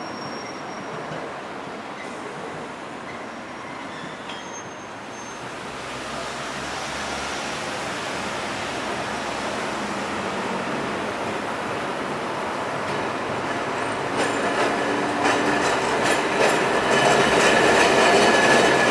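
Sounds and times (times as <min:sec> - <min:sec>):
trams and road traffic rumble: 0:00.0 - 0:18.9.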